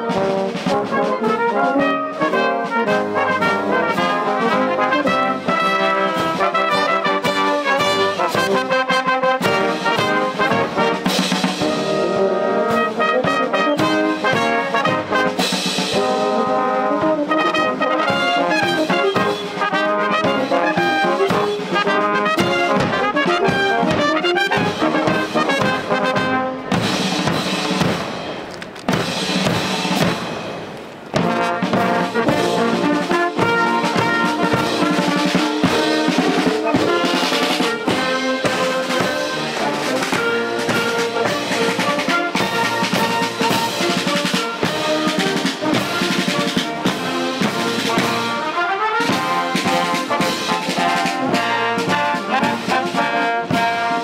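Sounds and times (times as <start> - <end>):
military brass band playing: 0.0 - 54.0.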